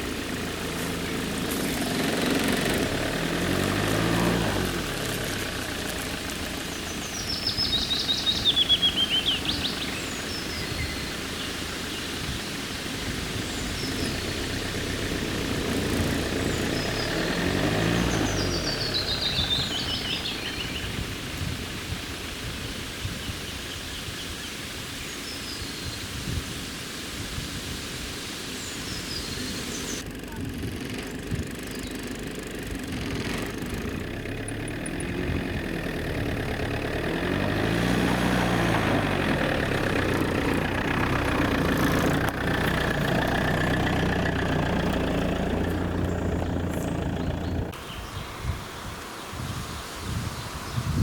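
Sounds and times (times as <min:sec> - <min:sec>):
songbird trilled song: 0:05.3 - 0:26.4, 0:28.4 - 0:30.4, 0:31.0 - 0:32.2, 0:33.2 - 0:51.0.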